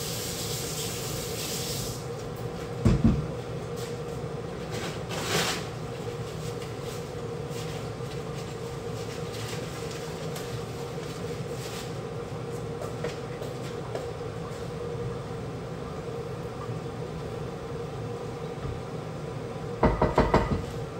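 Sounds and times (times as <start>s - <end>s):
gas stove rumble and hiss: 0.0s - 20.9s.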